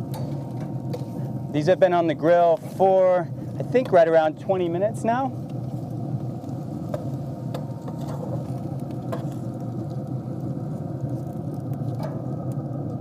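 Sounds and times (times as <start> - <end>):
grill humming: 0.0 - 13.0.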